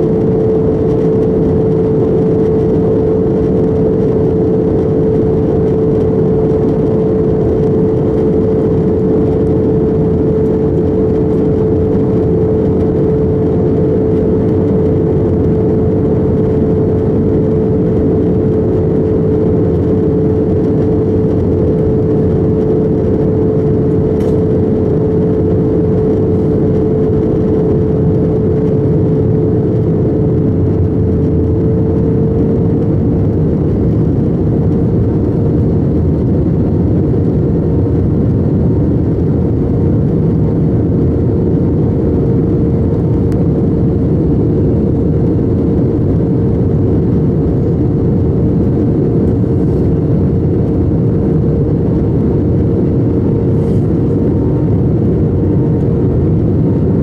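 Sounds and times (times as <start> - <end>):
aircraft cabin roar: 0.0 - 57.0
steady humming tone: 0.0 - 57.0.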